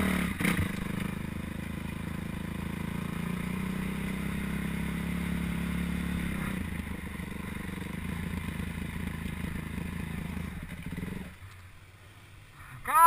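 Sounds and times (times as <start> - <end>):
motocross bike engine: 0.0 - 13.0.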